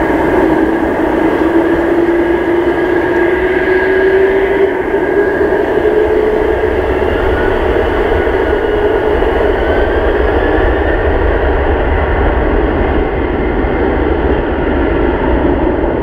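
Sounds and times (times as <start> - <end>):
jet engines spooling up: 0.0 - 16.0.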